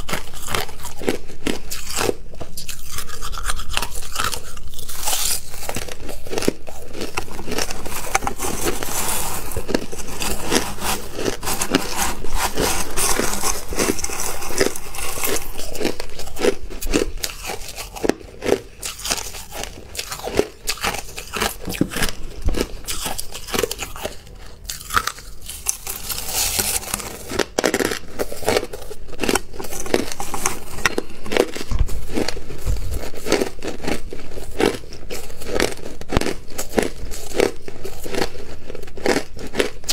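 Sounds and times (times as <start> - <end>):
ice crunching in mouth: 0.0 - 39.9.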